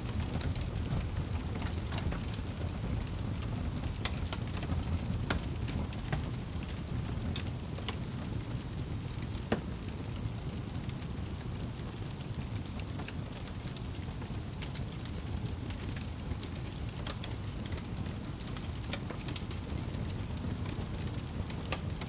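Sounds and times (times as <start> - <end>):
fire rumbling: 0.0 - 22.0
wood fire crackling: 0.0 - 22.0
sharp fire pops: 0.1 - 22.0.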